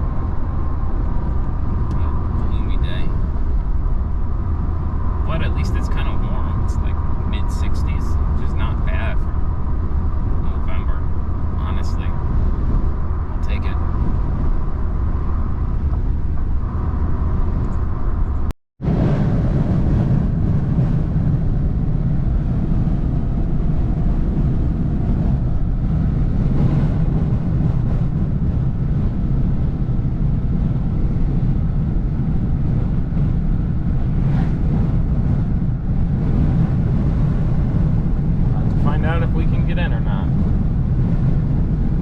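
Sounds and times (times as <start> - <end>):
truck engine and tyre road noise: 0.0 - 42.0.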